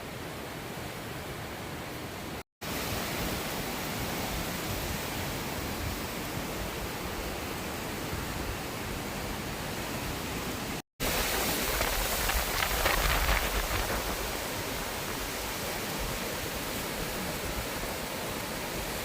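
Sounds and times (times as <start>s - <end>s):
rain: 0.0s - 19.0s
wind: 0.0s - 19.0s.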